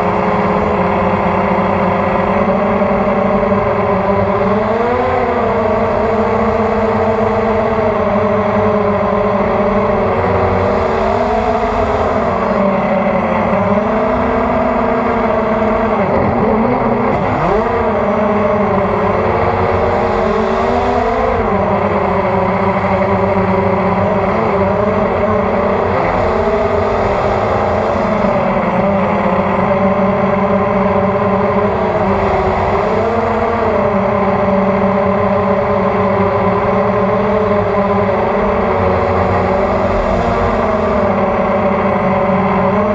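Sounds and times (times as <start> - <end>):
drone motors and propellers droning: 0.0 - 42.9.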